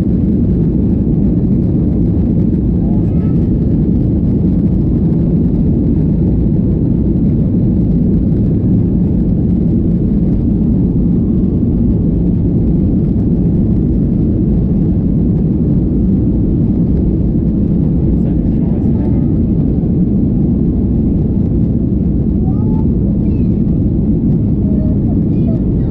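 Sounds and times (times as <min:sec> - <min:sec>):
jet engines rumbling: 0:00.0 - 0:25.9.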